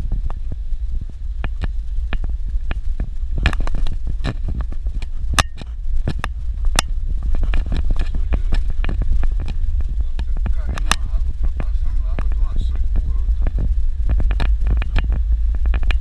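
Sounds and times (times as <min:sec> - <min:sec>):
vehicle rumbling on dirt road: 0:00.0 - 0:16.0.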